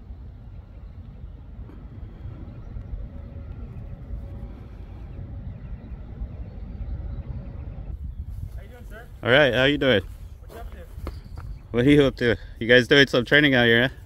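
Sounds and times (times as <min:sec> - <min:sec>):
faint hum: 0:00.0 - 0:11.8
low outdoor rumble: 0:00.0 - 0:14.0.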